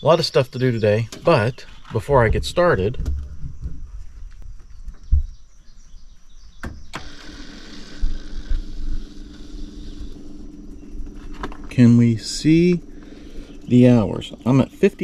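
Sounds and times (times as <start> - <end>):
steady electric hum: 0.0 - 15.0.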